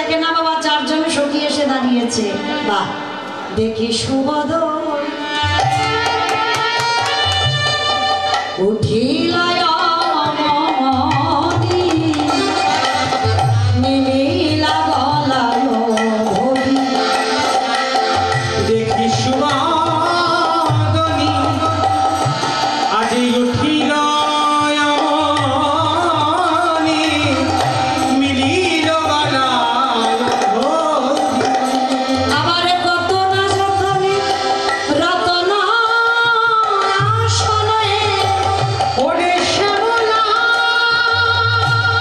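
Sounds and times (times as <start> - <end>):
hand drums playing a rhythm: 5.2 - 42.0.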